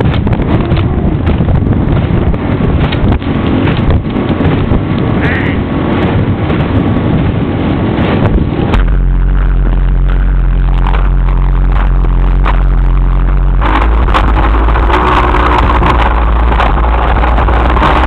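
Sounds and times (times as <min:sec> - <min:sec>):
hull noise: 0:00.0 - 0:18.0
motorboat engine: 0:00.0 - 0:18.0
wind buffeting microphone: 0:00.0 - 0:18.0.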